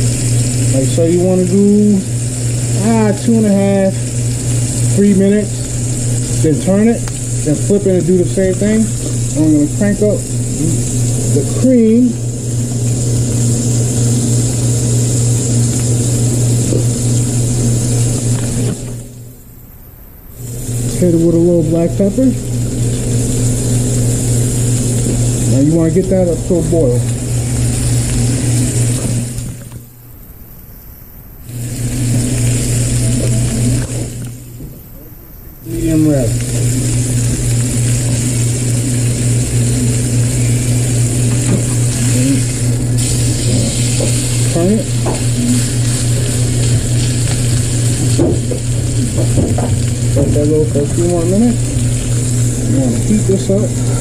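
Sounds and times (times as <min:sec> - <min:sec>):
steak sizzling in grill pan: 0:00.0 - 0:19.3, 0:20.3 - 0:29.9, 0:31.4 - 0:34.6, 0:35.6 - 0:54.0
gas burners humming and hissing: 0:00.0 - 0:54.0
low mechanical drone: 0:00.0 - 0:54.0.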